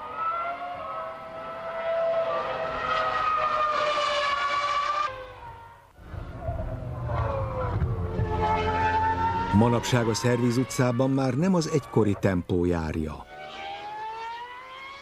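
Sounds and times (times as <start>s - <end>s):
racing car engine high revs: 0.0s - 5.6s, 6.2s - 11.2s, 13.2s - 15.0s.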